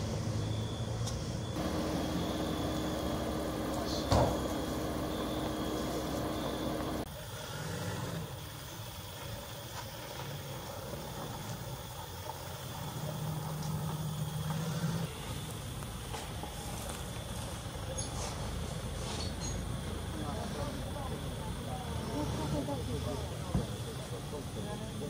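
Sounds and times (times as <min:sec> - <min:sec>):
car engines idling: 0:00.0 - 0:07.4, 0:08.3 - 0:25.0.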